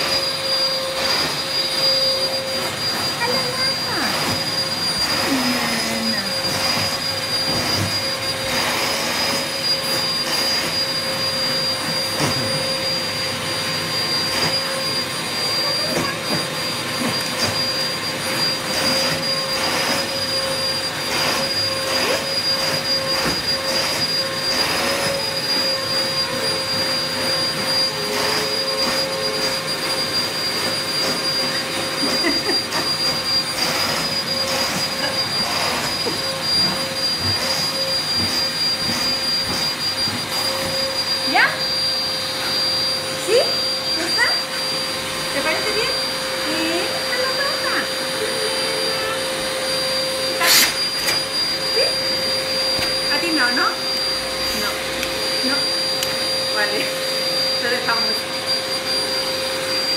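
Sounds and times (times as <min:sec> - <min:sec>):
vacuum cleaner whining: 0:00.0 - 0:59.9.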